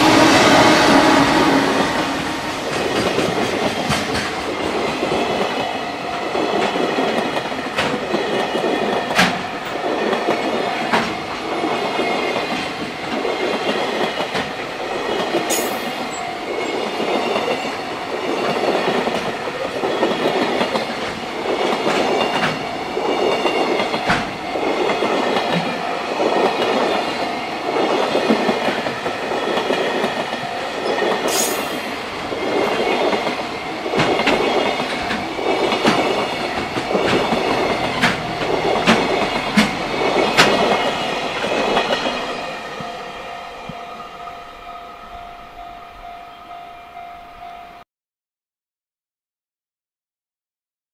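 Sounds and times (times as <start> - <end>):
train wheels clacking over rail joints: 0.0 - 16.2, 18.2 - 43.0.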